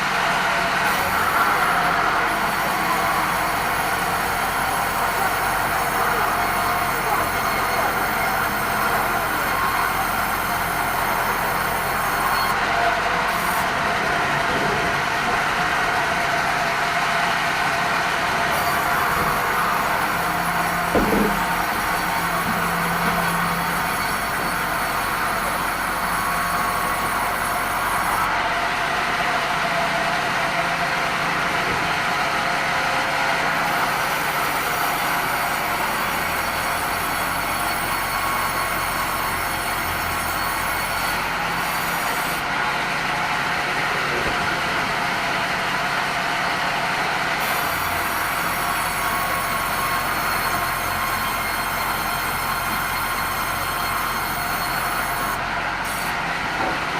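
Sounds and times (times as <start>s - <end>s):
band saw cutting timber: 0.0s - 45.9s, 47.3s - 56.9s.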